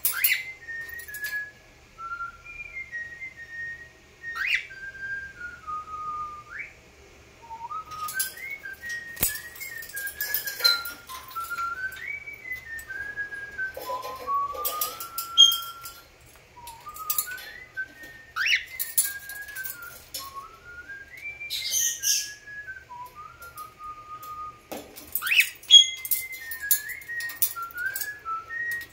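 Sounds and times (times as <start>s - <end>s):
cockatiel whistling a tune: 0.0s - 6.8s, 7.4s - 28.9s.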